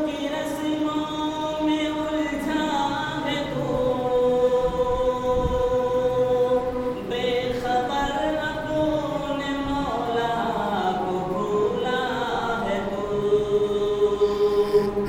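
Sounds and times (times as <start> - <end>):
man chanting through loudspeaker: 0.0 - 15.0.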